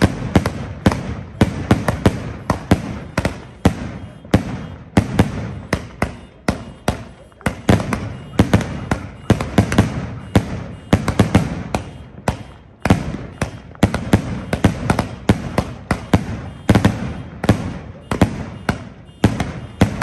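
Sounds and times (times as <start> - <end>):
firework bangs: 0.0 - 20.0.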